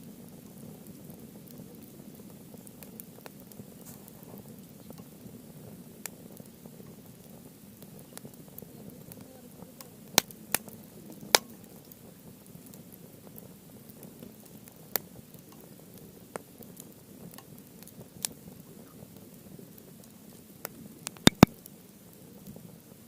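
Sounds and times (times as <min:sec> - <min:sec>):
wood fire crackling: 0:00.0 - 0:23.0
sharp pops from fire: 0:00.3 - 0:22.7.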